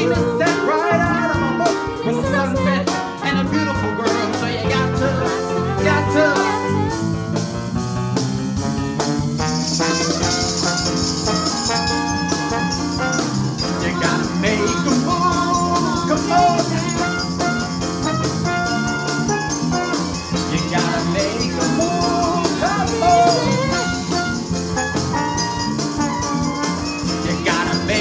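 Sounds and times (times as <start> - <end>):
upbeat music with drum beat: 0.0 - 28.0.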